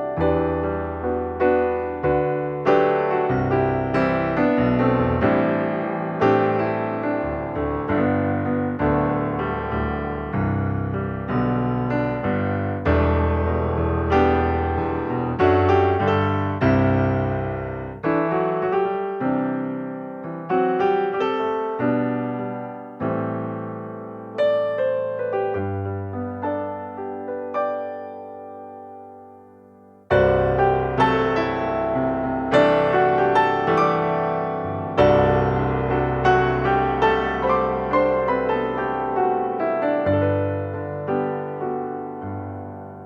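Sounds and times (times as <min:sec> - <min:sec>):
gentle piano music: 0:00.0 - 0:43.0.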